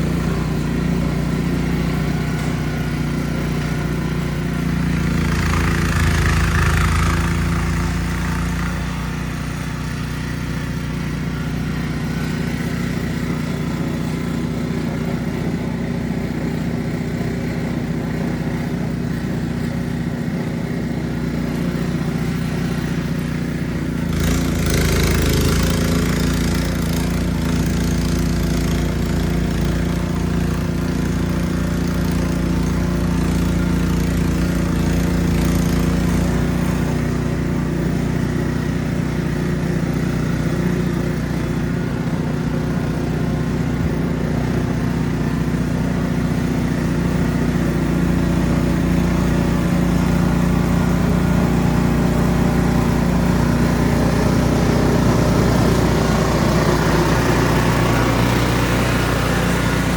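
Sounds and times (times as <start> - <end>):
snow blower engine running: 0.0 - 59.9.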